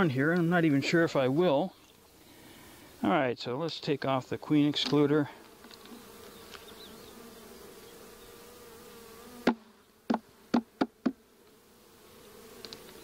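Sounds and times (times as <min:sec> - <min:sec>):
honeybees buzzing: 0:00.0 - 0:03.3, 0:03.9 - 0:13.0.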